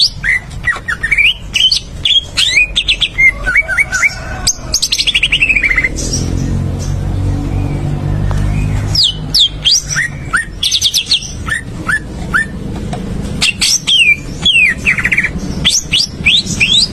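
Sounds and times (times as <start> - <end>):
songbird chirps and trills: 0.0 - 16.9.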